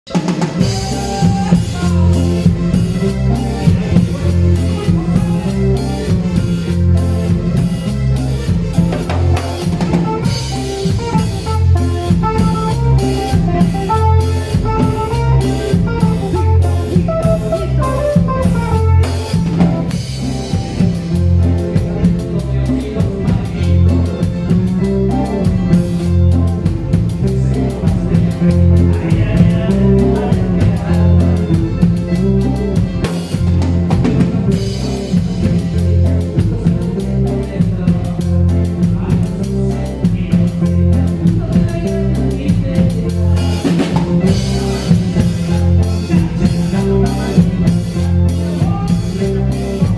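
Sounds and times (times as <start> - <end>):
live band music: 0.1 - 49.9.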